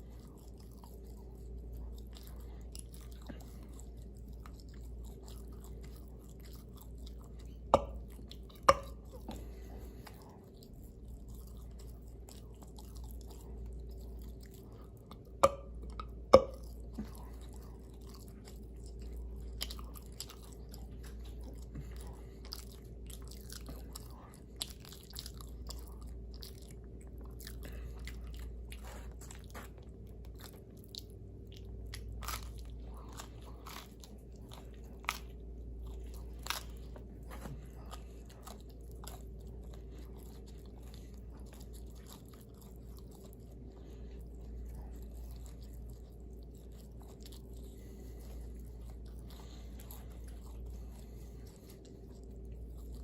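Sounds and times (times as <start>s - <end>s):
chewing and crunching pizza: 0.0s - 53.0s
faint steady hum: 0.0s - 53.0s.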